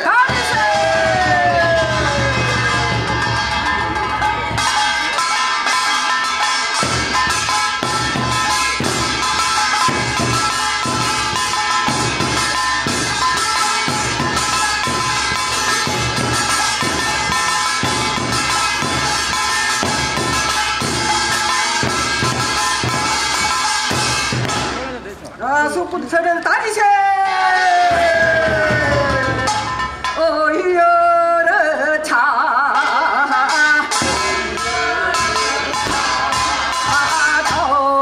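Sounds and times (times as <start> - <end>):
drums and gongs beating: 0.0 - 25.8, 26.5 - 38.0.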